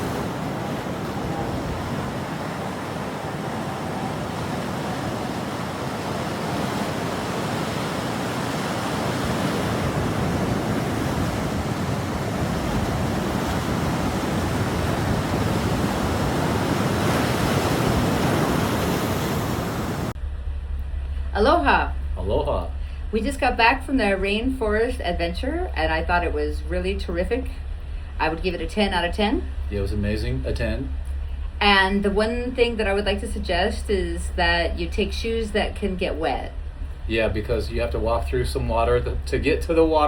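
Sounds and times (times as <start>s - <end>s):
ocean surf washing onto beach: 0.0s - 20.2s, 24.6s - 40.0s.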